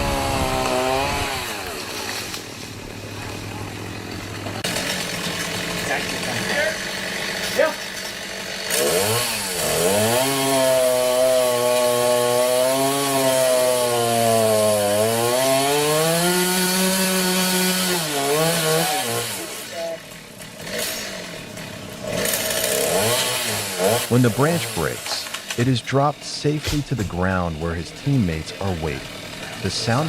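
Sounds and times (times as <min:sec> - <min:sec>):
chainsaw cutting branch: 0:00.0 - 0:30.0.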